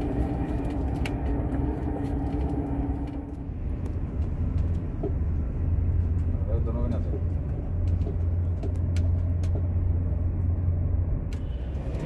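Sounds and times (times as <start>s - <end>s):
train rumble and hum: 0.0s - 12.0s.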